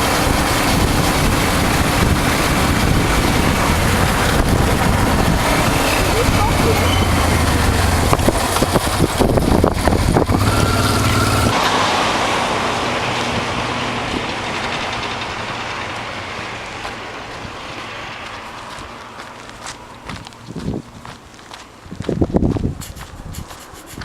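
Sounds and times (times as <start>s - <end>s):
rushing noise: 0.0s - 21.0s
vehicle engine humming: 0.0s - 24.0s.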